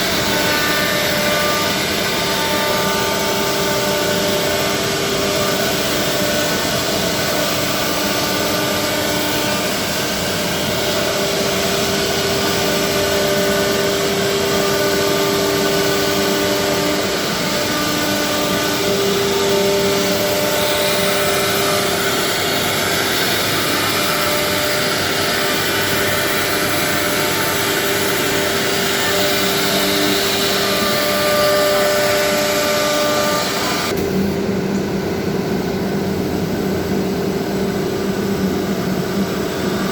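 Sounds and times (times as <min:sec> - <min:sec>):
wood router machining: 0:00.0 - 0:34.1, 0:36.9 - 0:39.9.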